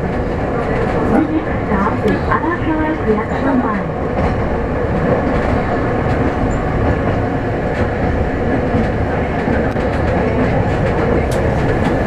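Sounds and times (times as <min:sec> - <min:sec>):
streetcar wheels rumbling on rails: 0:00.0 - 0:12.0.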